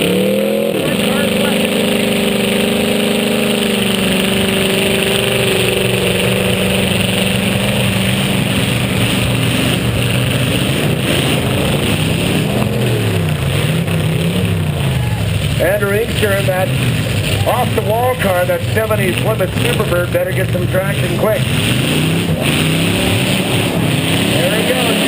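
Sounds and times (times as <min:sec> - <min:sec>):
car engines running: 0:00.0 - 0:25.0
engine revving: 0:00.0 - 0:25.0.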